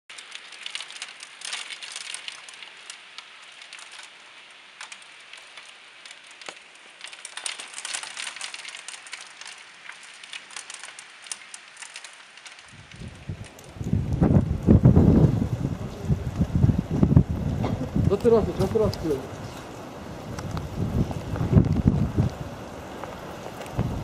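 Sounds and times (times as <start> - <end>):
hail hiss: 0.1 - 24.0
hailstones clicking on plants: 0.1 - 24.0.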